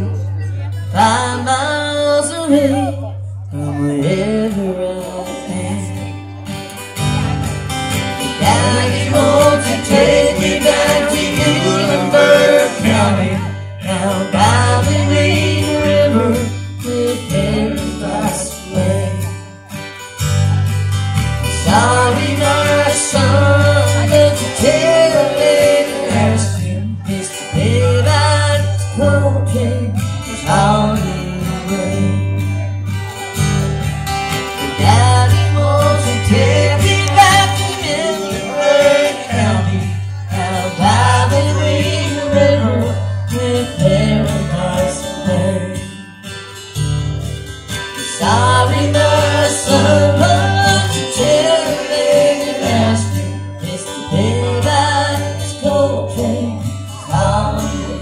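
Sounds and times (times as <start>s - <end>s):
bass line: 0.0s - 58.0s
electric guitar: 0.0s - 58.0s
strummed acoustic guitars: 0.0s - 58.0s.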